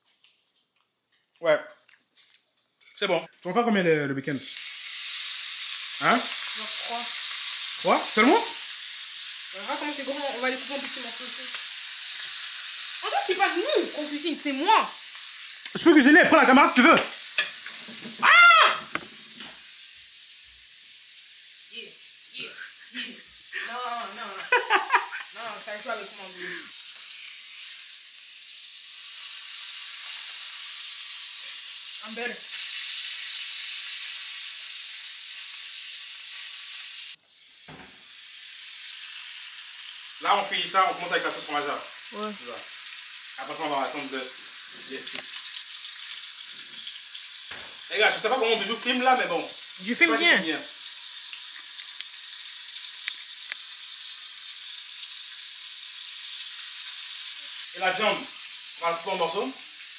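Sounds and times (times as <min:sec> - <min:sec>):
meat sizzling in a skillet: 0:04.2 - 0:59.9.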